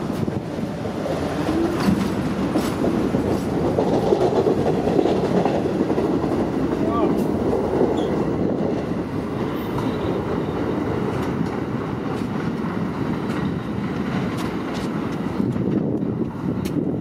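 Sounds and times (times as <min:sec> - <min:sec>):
steel wheels on rail: 0:00.0 - 0:17.0.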